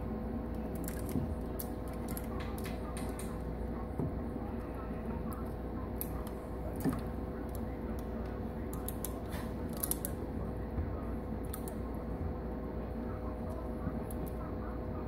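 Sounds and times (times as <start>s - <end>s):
aquarium filter humming: 0.0s - 15.0s.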